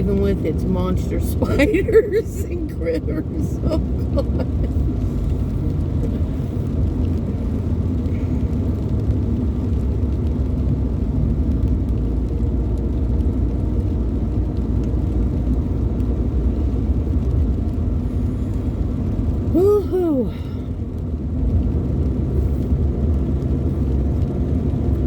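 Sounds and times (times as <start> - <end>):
car engine and tyre noise: 0.0 - 25.0.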